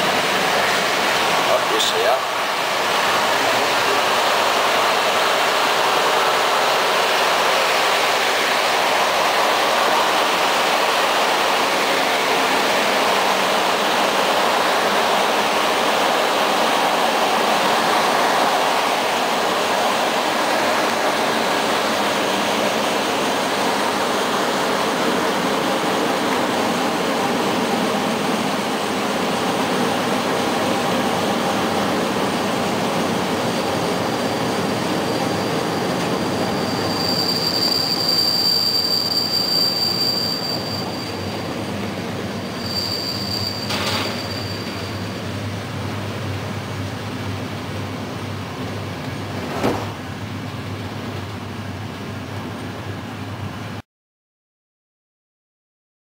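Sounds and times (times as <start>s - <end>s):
train wheels rushing on rail: 0.0s - 53.8s.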